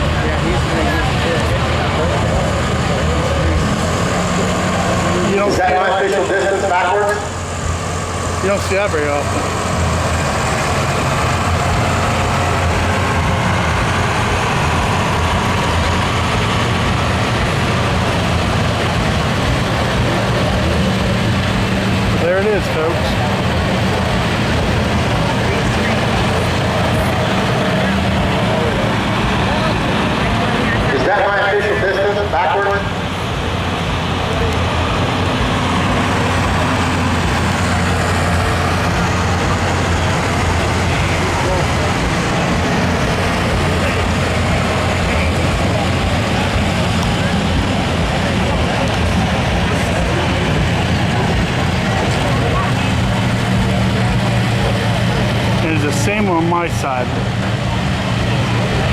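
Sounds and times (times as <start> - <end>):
diesel truck engine running: 0.0 - 58.9.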